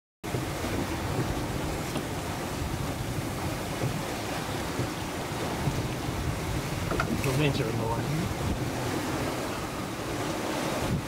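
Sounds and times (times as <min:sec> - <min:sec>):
wind and sea rushing: 0:00.2 - 0:11.0
wind buffeting microphone: 0:00.2 - 0:11.0.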